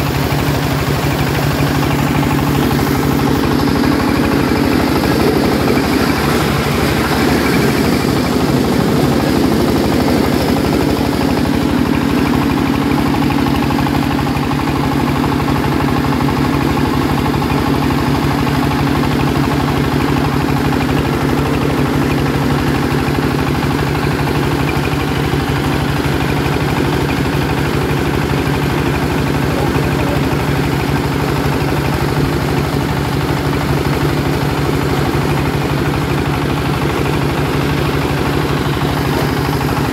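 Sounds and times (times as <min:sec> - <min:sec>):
corn sheller droning: 0:00.0 - 0:39.9.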